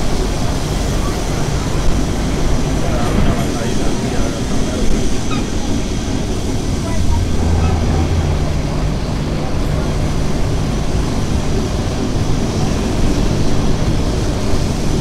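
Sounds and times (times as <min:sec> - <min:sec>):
electric tram low hum: 0:00.0 - 0:15.0
tram wheels rolling on rails: 0:00.0 - 0:15.0.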